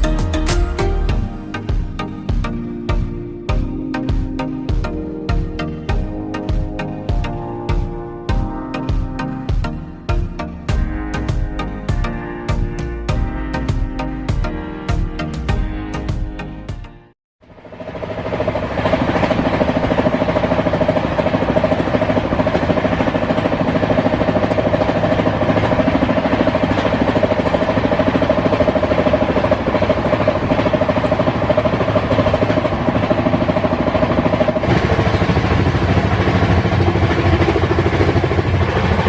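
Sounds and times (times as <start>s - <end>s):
moving passenger train rumble: 0.0s - 39.0s.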